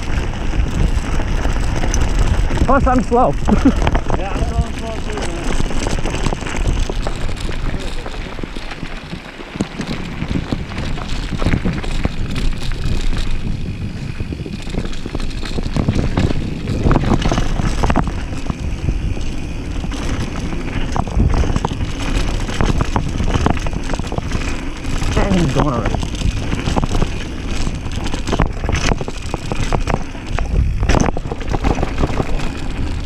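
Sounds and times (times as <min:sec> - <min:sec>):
bike rattling and knocking: 0:00.0 - 0:33.0
bike tyres rolling on gravel: 0:00.0 - 0:33.0
wind rushing over microphone: 0:00.0 - 0:33.0.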